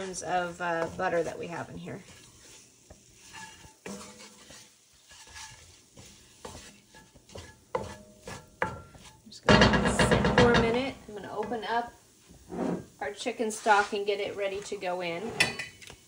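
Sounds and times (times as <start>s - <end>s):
spoon scraping and knocking pot: 0.0s - 11.6s, 14.6s - 16.0s
faint sizzle: 0.0s - 16.0s.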